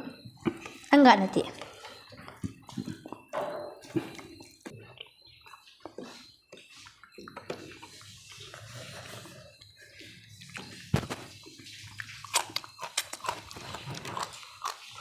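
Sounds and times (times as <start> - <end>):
eating mouth noises: 1.5 - 15.0.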